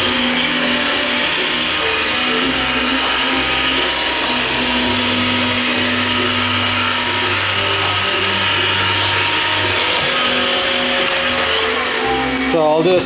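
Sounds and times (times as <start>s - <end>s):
robotic vacuum whirring: 0.0s - 13.0s.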